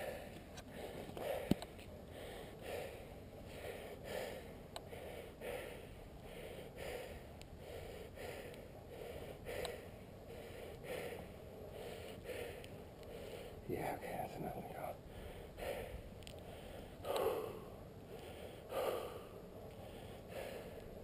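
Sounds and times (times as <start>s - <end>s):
person breathing hard: 0.0s - 14.2s, 14.9s - 21.0s.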